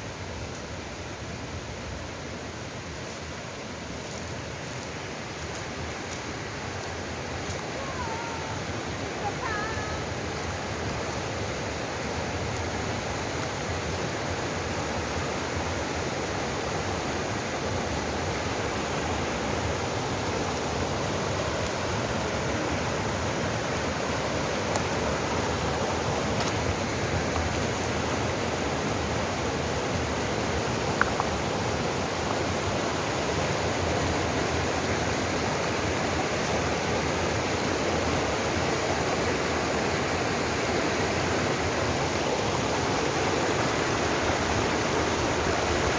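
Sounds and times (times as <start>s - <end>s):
stream water rushing: 0.0s - 45.9s.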